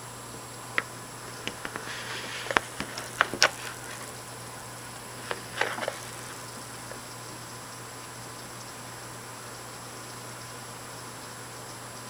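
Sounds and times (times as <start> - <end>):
heavy rain hiss: 0.0 - 12.0.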